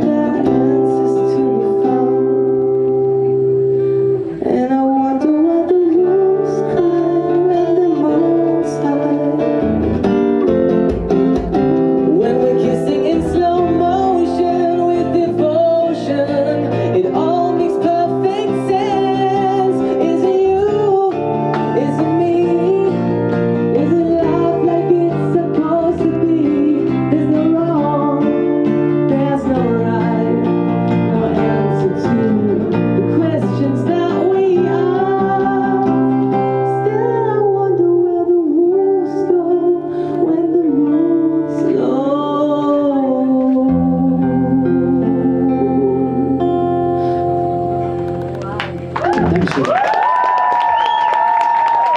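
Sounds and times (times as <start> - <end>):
person singing: 0.0 - 48.6
acoustic guitar: 0.0 - 49.6.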